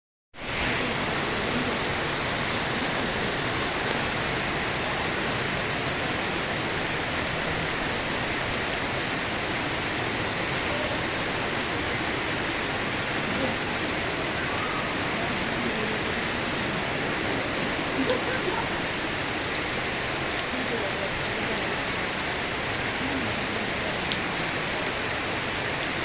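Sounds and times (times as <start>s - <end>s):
rushing water: 0.4s - 26.0s.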